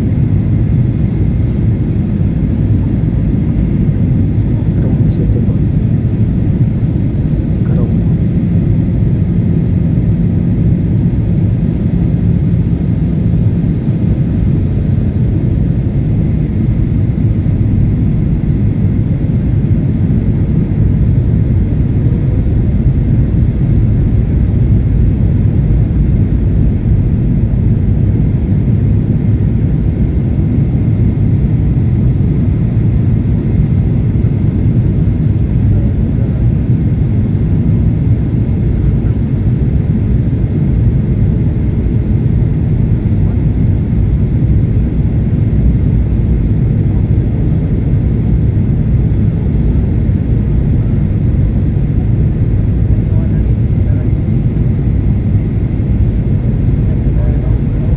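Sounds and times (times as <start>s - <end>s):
jet airliner engine rumble: 0.0s - 57.9s.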